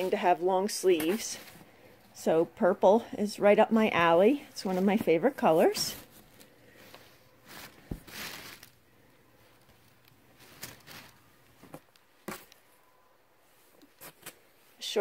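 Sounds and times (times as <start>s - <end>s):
clothes and tissue paper rustling: 0.0s - 15.0s.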